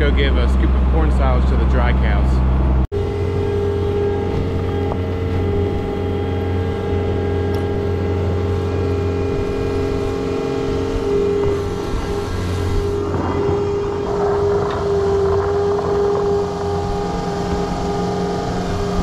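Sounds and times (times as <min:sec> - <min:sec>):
farm machine engine running: 0:00.0 - 0:19.0
higher-pitched hum: 0:00.0 - 0:19.0.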